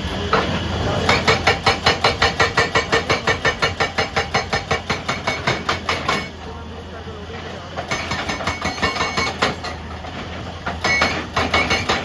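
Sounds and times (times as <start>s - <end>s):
hydraulic rock breaker hammering: 0.2s - 6.6s, 7.4s - 12.0s.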